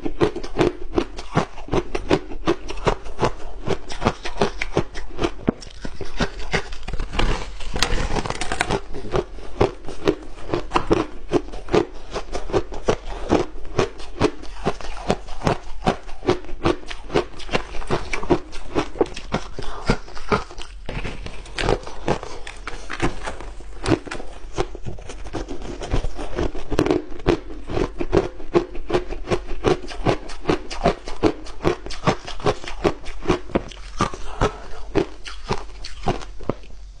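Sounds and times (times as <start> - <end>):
ice being chewed: 0.0 - 36.8.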